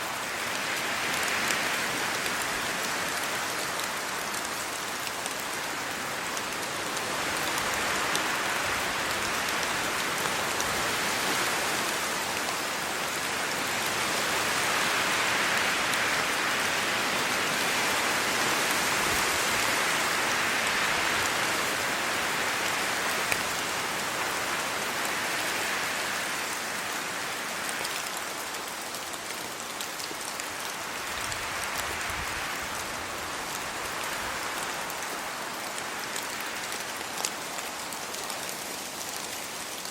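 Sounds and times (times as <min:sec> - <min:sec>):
rain on leaves and road: 0:00.0 - 0:39.9
wind through trees: 0:00.0 - 0:39.9.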